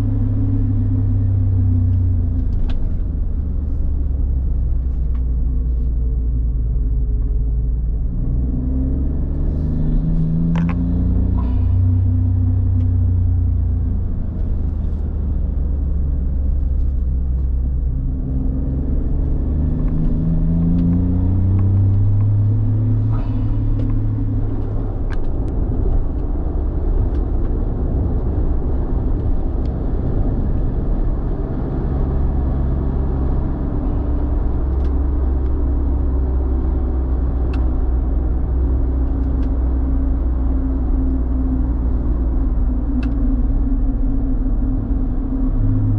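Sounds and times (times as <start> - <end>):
car engine running while driving: 0.0 - 45.9.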